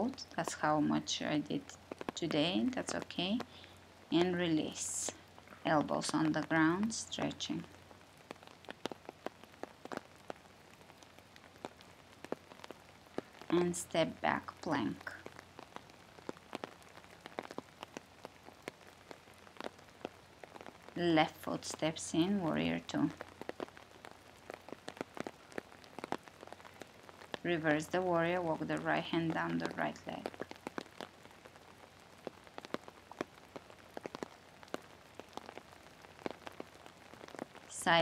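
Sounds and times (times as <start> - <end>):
faint steady hiss: 0.0 - 38.0
light rain patter: 0.0 - 38.0
raindrops striking: 0.0 - 38.0.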